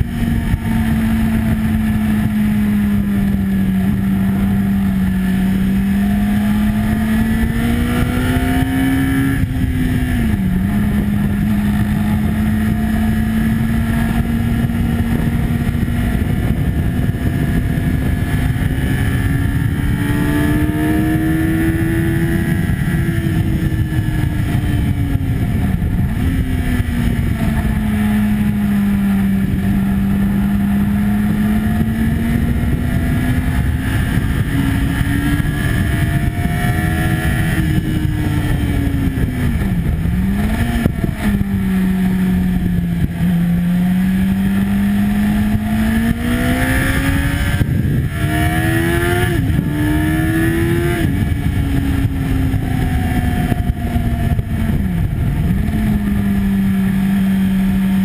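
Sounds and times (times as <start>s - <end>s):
loud wind rush: 0.0s - 58.0s
motorcycle engine at high revs: 0.0s - 58.0s.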